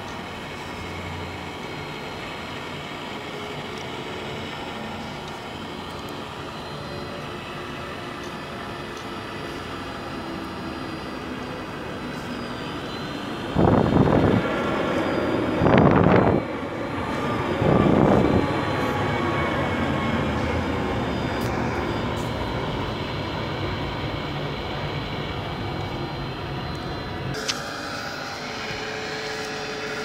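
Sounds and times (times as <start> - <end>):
toy excavator hydraulic whine: 0.0 - 30.0.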